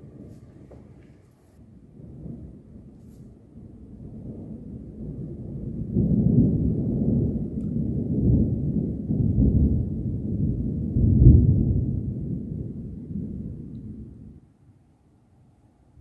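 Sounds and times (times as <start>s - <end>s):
thunder rumbling: 0.0s - 14.5s.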